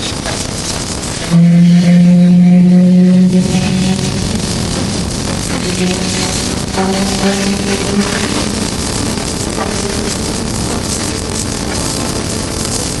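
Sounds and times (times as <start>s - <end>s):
wind noise on microphone: 0.0s - 13.0s
motorcycle engine: 0.7s - 13.0s
steady pitched tone: 1.0s - 13.0s.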